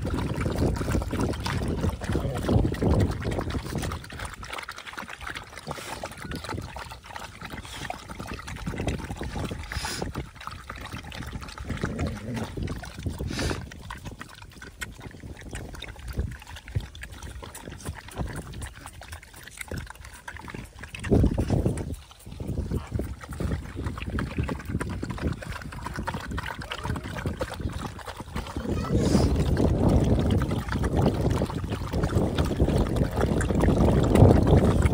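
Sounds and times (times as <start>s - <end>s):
dogs lapping liquid: 0.0s - 34.9s.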